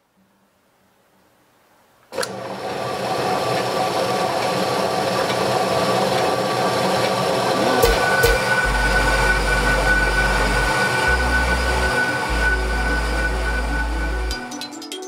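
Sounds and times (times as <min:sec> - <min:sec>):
band saw running: 0:02.2 - 0:14.6.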